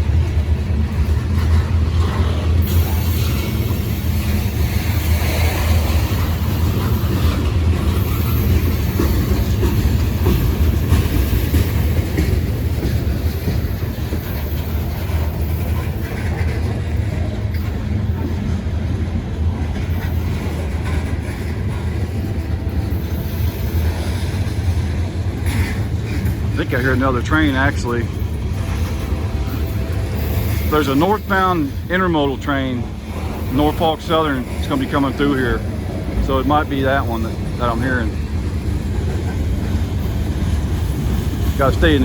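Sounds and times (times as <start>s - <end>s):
freight train wheels rumbling on rail: 0.0s - 42.0s.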